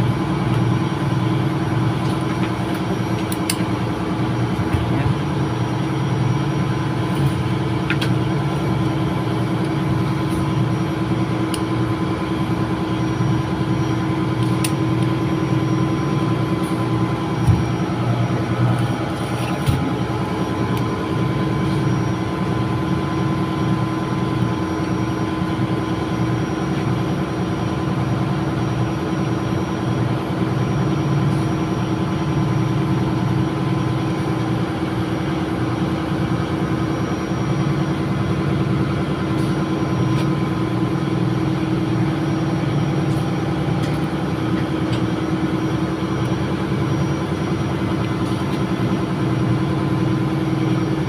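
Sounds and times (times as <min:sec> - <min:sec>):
engine room machinery droning: 0:00.0 - 0:51.0.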